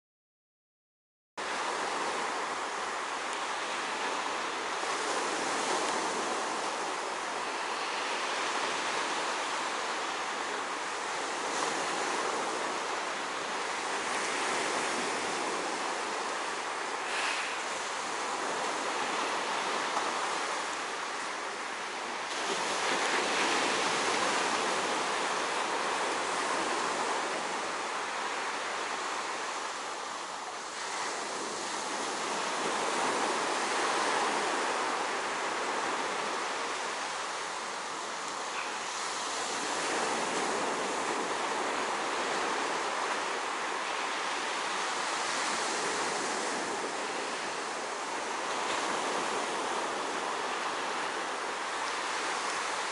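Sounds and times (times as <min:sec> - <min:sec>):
sea waves rushing: 0:01.4 - 0:52.9
wind: 0:01.4 - 0:52.9.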